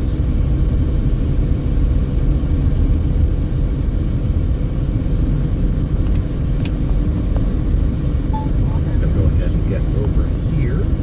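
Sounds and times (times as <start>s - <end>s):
car engine cruising: 0.0s - 11.0s
tyre and road noise: 0.0s - 11.0s.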